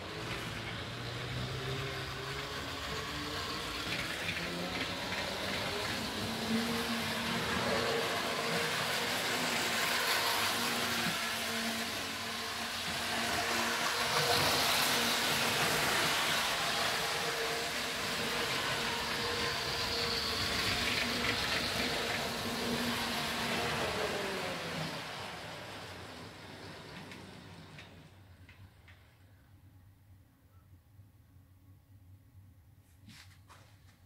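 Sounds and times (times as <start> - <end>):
model train motor whirring: 0.0 - 29.0
wheels rolling over rails: 0.0 - 29.2.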